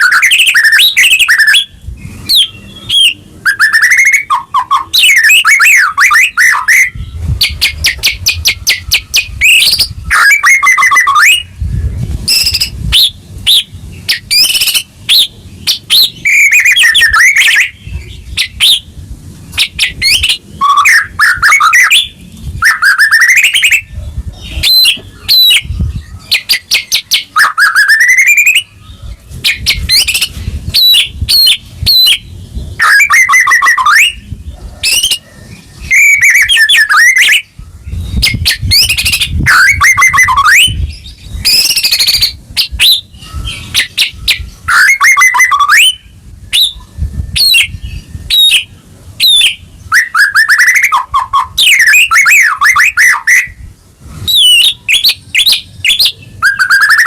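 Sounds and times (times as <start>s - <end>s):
songbird trills and whistles: 0.0s - 18.9s, 19.5s - 57.0s.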